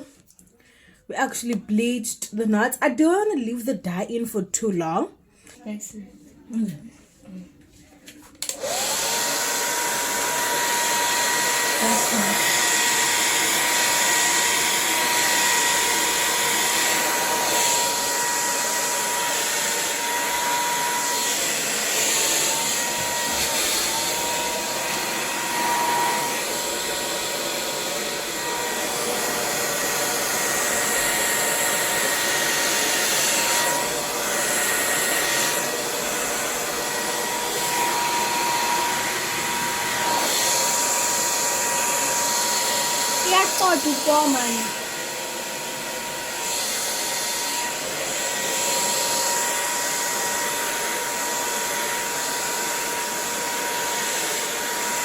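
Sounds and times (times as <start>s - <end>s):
hair dryer running: 8.4s - 55.0s.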